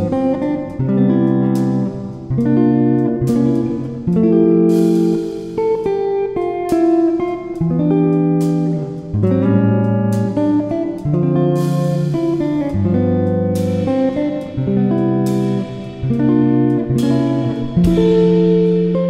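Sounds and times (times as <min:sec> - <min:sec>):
strummed guitar chords: 0:00.0 - 0:19.0.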